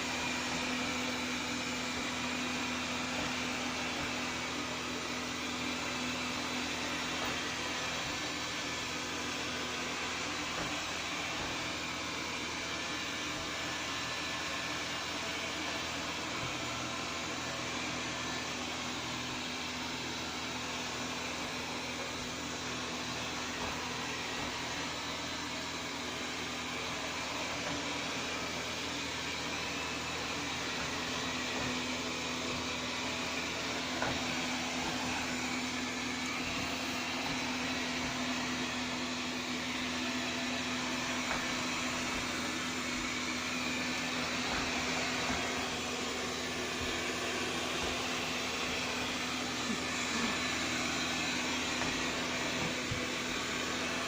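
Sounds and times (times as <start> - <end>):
robot vacuum humming: 0.0 - 54.0.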